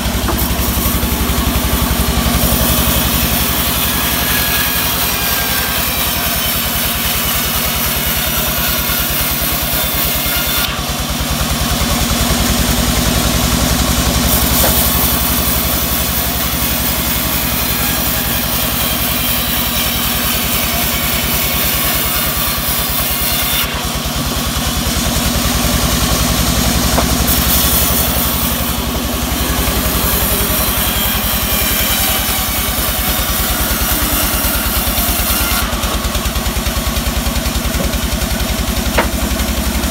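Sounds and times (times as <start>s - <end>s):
band saw machine drone: 0.0s - 39.9s.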